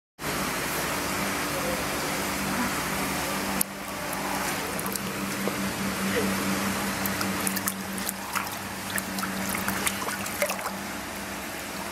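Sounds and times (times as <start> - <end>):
low motor hum: 0.2 - 11.9
rushing water: 2.0 - 11.9.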